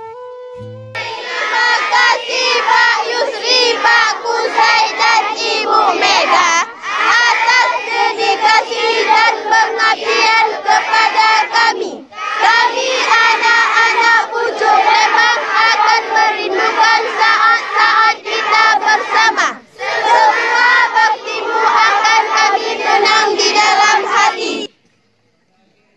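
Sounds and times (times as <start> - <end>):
children singing in unison: 1.0 - 24.7.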